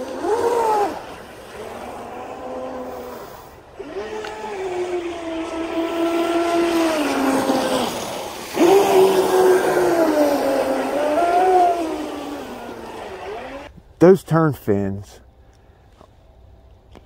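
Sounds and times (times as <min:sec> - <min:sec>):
boat motor whining: 0:00.0 - 0:13.8.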